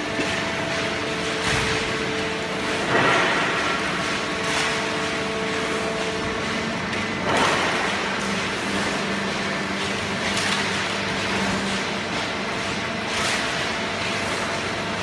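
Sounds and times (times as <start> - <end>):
cardboard baler humming: 0.0 - 15.0.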